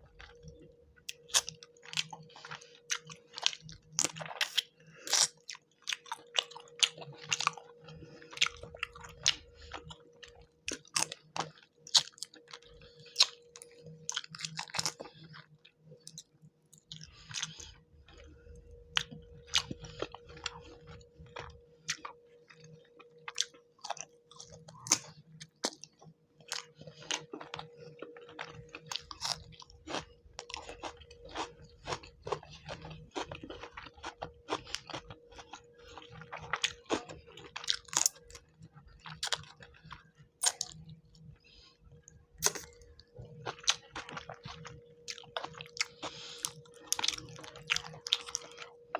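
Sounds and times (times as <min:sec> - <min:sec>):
close chewing and crunching: 0:00.0 - 0:48.9.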